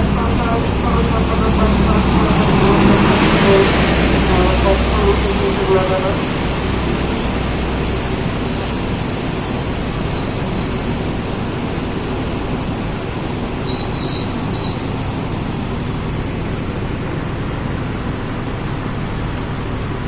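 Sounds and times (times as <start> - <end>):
high wheel squeal: 0.0 - 20.0
train wheels rumbling on rails: 0.0 - 20.0.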